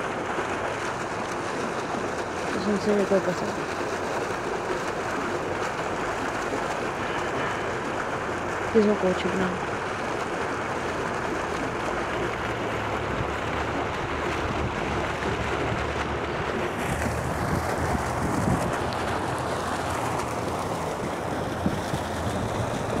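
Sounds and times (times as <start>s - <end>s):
fountain water splashing into basin: 0.0s - 23.0s.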